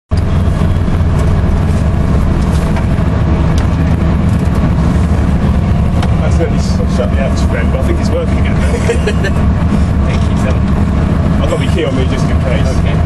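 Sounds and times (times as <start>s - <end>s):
ferry engines droning: 0.1s - 13.0s
rushing noise: 0.1s - 13.0s.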